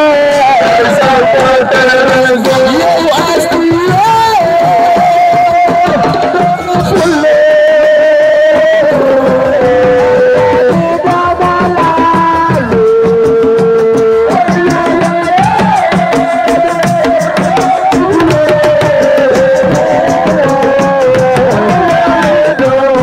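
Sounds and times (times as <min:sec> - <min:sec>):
hand drum percussion: 0:00.0 - 0:23.0
person singing: 0:00.0 - 0:23.0.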